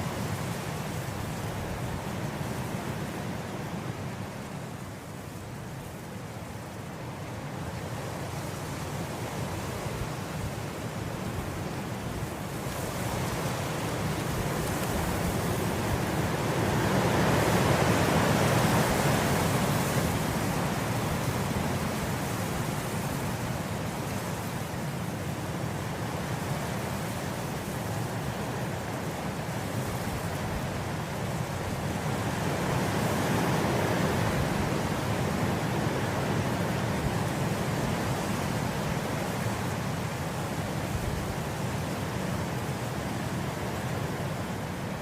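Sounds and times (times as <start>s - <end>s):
wind blowing through grass: 0.0s - 45.0s.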